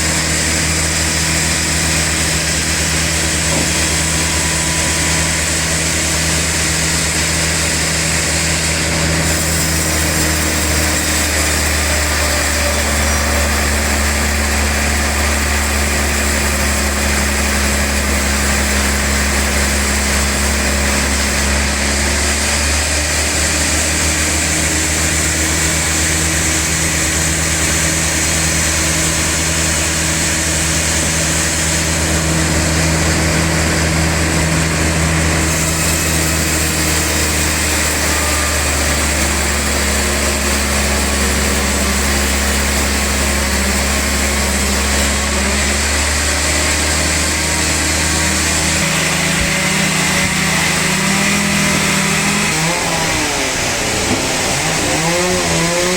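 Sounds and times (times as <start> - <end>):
log saw motor hum: 0.0 - 55.9.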